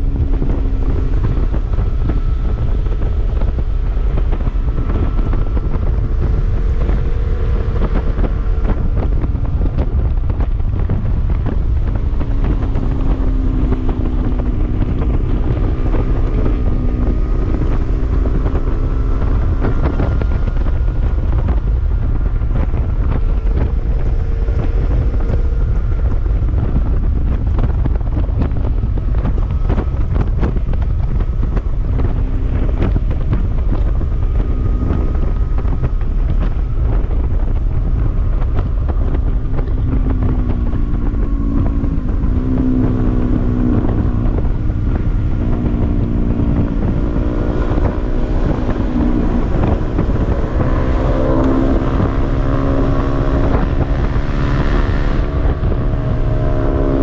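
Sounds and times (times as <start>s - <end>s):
motorcycle engines running: 0.0s - 57.0s
wind noise on microphone: 0.0s - 57.0s.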